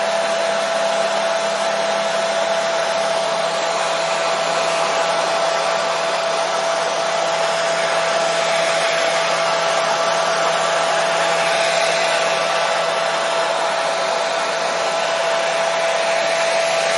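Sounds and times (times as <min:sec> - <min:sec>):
hair dryer running: 0:00.0 - 0:16.9.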